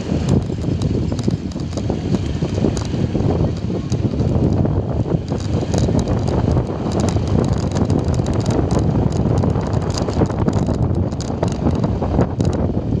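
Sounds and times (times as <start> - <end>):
gravel crackling under tyres: 0.0 - 13.0
motorcycle running: 0.0 - 13.0
wind buffeting microphone: 0.0 - 13.0.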